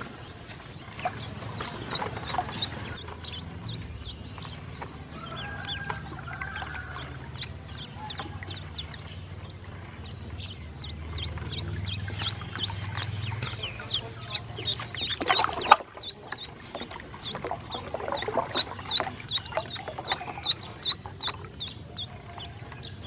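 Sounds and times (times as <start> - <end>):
ducklings peeping: 0.0 - 23.0
low steady rumble: 0.0 - 23.0
water splashes and clicks: 0.0 - 23.0.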